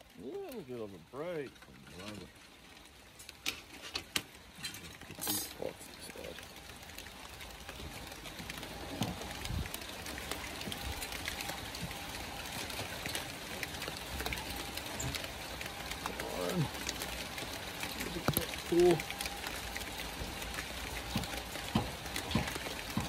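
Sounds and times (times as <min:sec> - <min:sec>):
light rain falling: 0:00.0 - 0:23.0.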